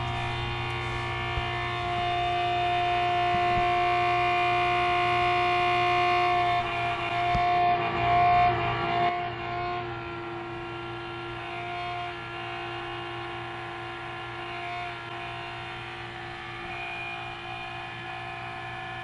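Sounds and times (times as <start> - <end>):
electric pump motor humming: 0.0 - 19.0.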